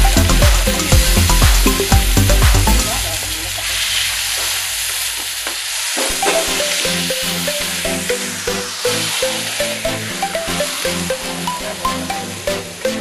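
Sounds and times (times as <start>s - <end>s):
background music: 0.0s - 3.9s, 6.1s - 13.0s
vegetables sizzling in a wok: 0.0s - 13.0s.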